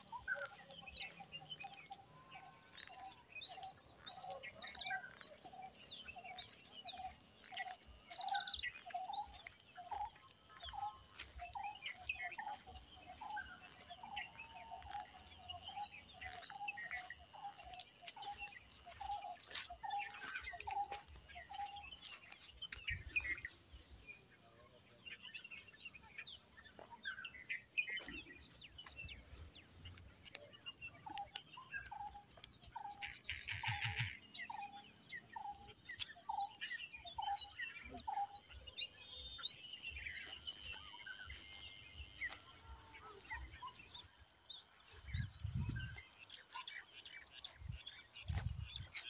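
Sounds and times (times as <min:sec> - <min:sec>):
bird chirps: 0:00.0 - 0:49.0
insect drone: 0:00.0 - 0:49.0.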